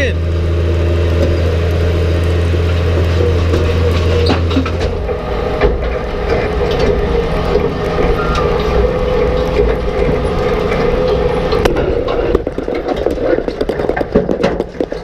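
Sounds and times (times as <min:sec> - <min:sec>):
tractor engine running: 0:00.0 - 0:15.0
rock picker reel clattering: 0:02.5 - 0:15.0.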